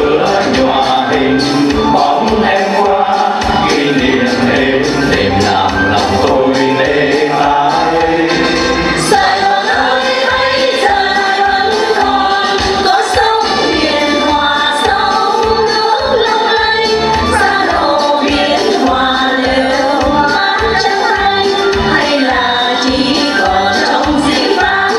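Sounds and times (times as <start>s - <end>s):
instrumental accompaniment with beat: 0.0s - 24.9s
mixed choir singing: 0.0s - 24.9s.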